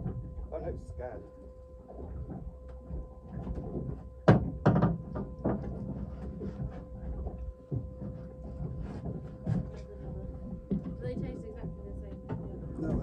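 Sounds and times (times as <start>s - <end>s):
knocks and thumps on boat: 0.0s - 0.7s, 1.9s - 13.0s
thin steady whine: 0.0s - 13.0s.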